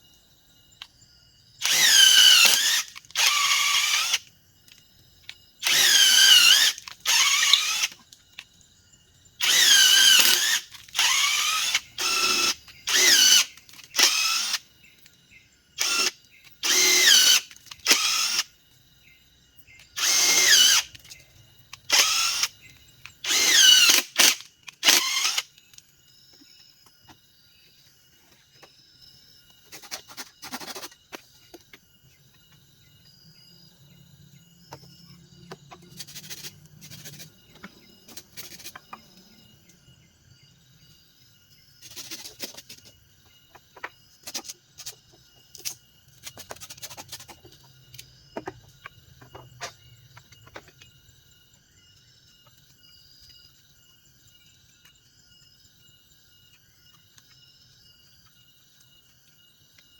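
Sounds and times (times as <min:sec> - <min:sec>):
insects chirping in trills: 0:00.0 - 0:59.9.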